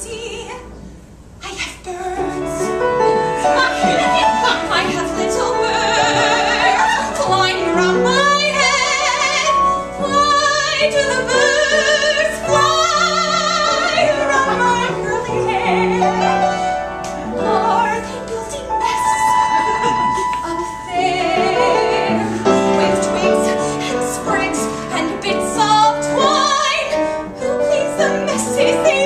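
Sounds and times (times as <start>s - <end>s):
woman singing operatically: 0.0s - 0.6s, 3.4s - 16.5s, 17.4s - 29.0s.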